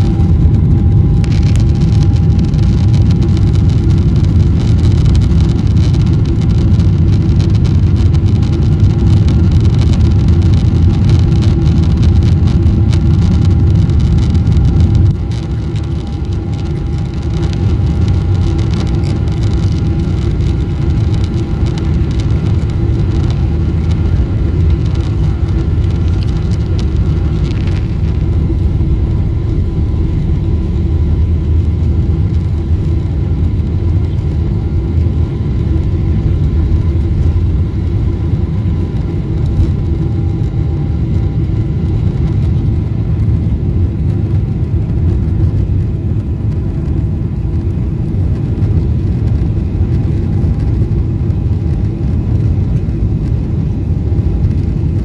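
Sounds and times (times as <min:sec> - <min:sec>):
car engine and road noise: 0:00.0 - 0:55.0
faint steady hum: 0:00.0 - 0:55.0.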